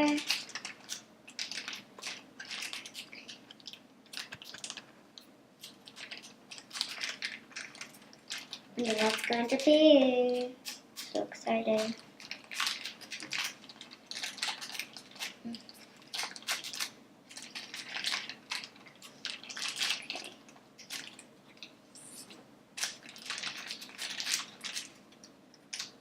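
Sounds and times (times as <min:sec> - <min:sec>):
plastic packaging crinkling: 0:00.0 - 0:21.8, 0:22.8 - 0:26.0.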